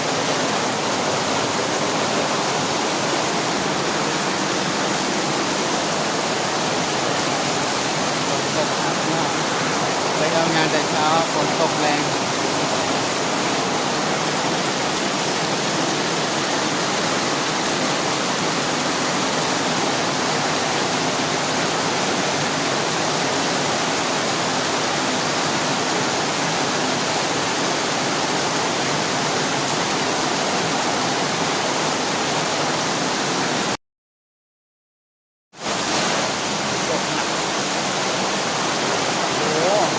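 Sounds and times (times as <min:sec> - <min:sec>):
heavy rain pouring: 0:00.0 - 0:33.8, 0:35.6 - 0:39.9.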